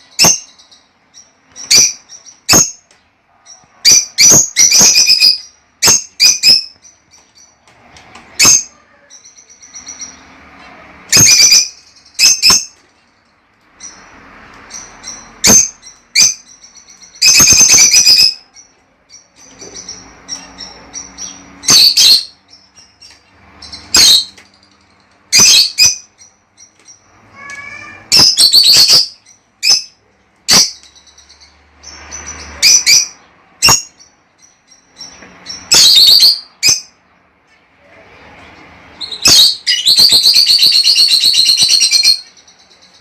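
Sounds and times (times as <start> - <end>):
lovebirds shrill calls: 0.0 - 2.9, 3.5 - 7.6, 8.3 - 12.8, 13.8 - 37.0, 38.9 - 43.0
lovebirds chattering chirps: 0.0 - 43.0.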